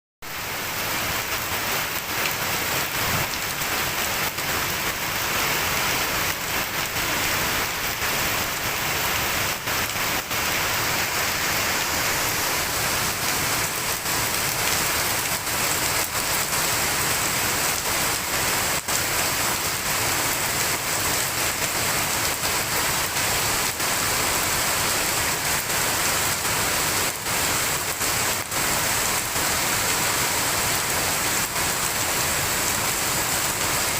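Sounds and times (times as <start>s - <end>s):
heavy rain hissing: 0.2s - 33.9s.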